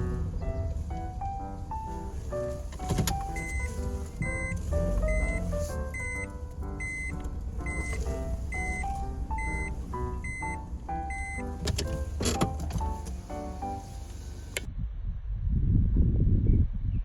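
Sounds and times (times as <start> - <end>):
melodic tune over low bass: 0.0 - 14.7.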